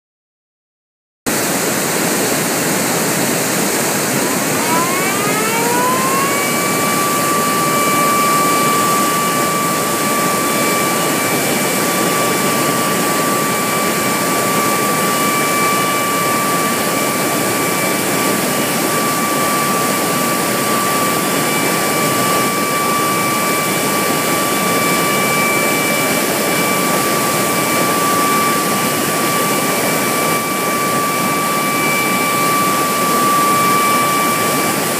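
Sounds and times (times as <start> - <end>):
warning siren: 3.2 - 34.9.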